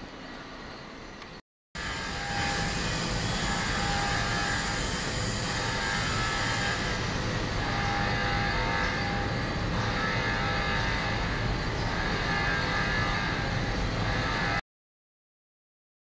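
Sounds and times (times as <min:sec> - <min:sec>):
steady whining tones: 0:00.8 - 0:14.6
workshop machinery droning: 0:00.9 - 0:14.6.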